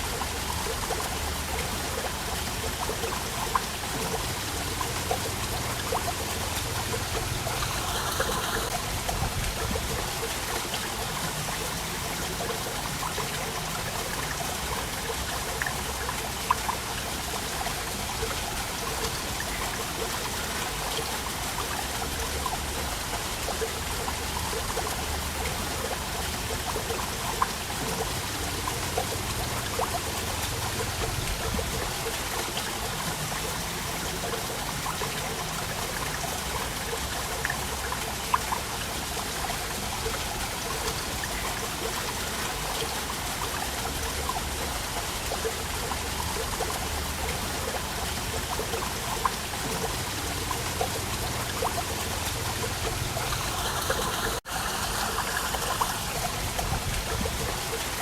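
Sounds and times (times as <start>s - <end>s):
waterfall splashing: 0.0s - 58.0s.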